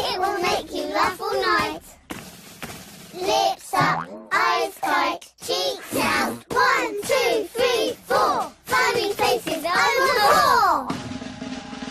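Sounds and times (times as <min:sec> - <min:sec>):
children singing cheerful song: 0:00.0 - 0:02.1, 0:02.9 - 0:10.9.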